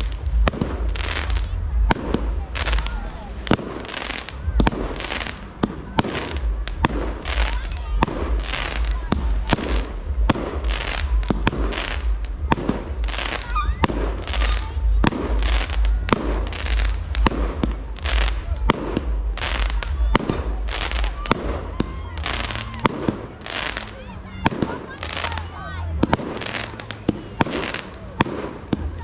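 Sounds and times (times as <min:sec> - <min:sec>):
low rumble: 0:00.0 - 0:23.4
crackle of bursting fireworks: 0:00.0 - 0:29.0
fireworks bangs: 0:00.0 - 0:29.0.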